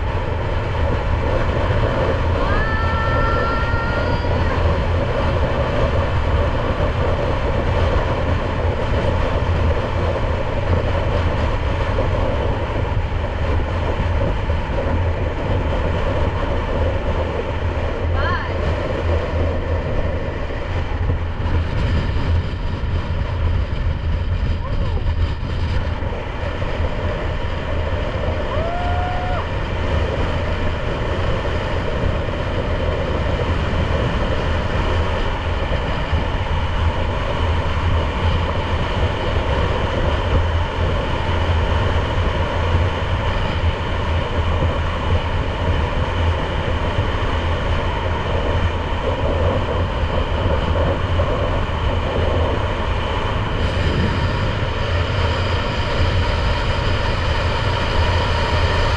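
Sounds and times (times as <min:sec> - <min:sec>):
motorcycle engine running: 0:00.0 - 0:58.9
road noise: 0:00.0 - 0:58.9
wind noise: 0:00.0 - 0:58.9.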